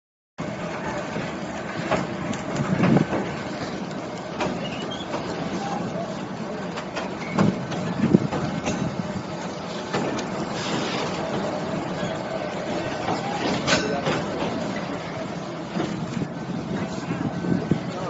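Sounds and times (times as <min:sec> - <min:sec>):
train wheels rumbling on rail: 0:00.4 - 0:18.0.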